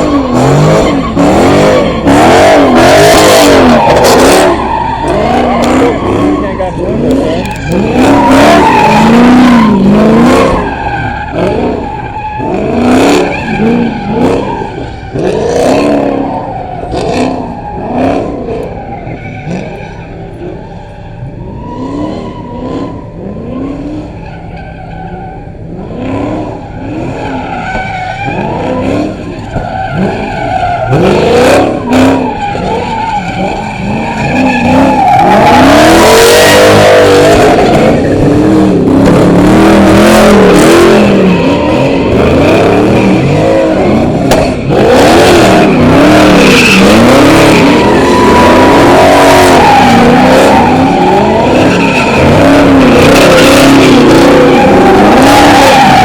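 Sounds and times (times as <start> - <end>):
car engine revving: 0.0 - 56.0
tyres skidding and squealing: 0.0 - 56.0.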